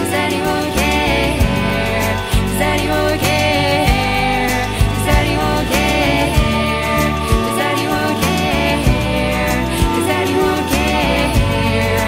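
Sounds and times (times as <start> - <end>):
song with singing voice: 0.0 - 12.0.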